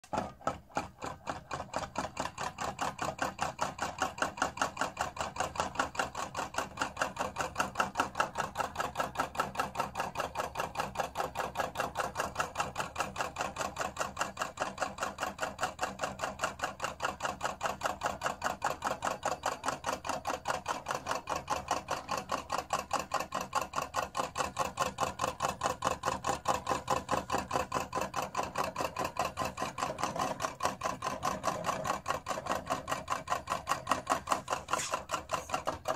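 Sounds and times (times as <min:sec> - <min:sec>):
rapid mechanical clicking of engine: 0:00.0 - 0:35.9.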